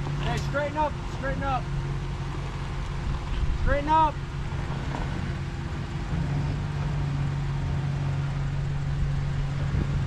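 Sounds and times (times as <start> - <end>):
truck engine at low revs: 0.0 - 10.0.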